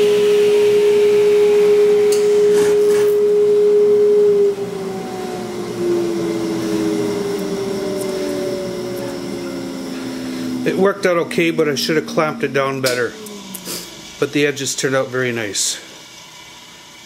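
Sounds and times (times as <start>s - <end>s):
table saw motor winding down: 2.0s - 17.0s.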